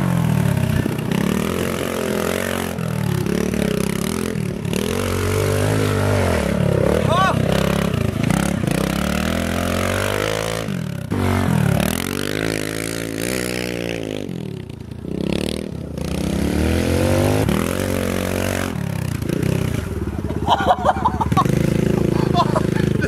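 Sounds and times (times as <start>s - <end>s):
pit bike engine revving: 0.0s - 23.0s.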